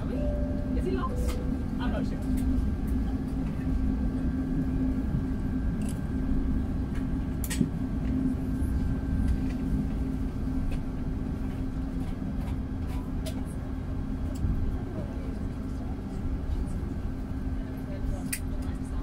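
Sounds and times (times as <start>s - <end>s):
aircraft cabin rumble and hum: 0.0s - 19.0s.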